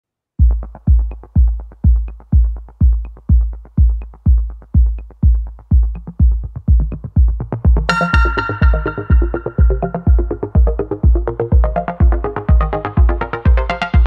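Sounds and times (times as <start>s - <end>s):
deep kick drum beat: 0.4s - 14.0s
hi-hat ticks: 0.5s - 14.0s.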